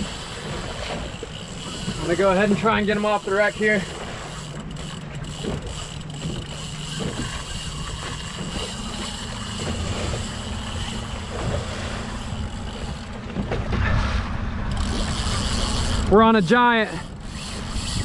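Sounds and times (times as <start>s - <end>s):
outboard engine running: 0.0s - 18.0s
water noise: 0.0s - 18.0s
wind: 0.0s - 18.0s.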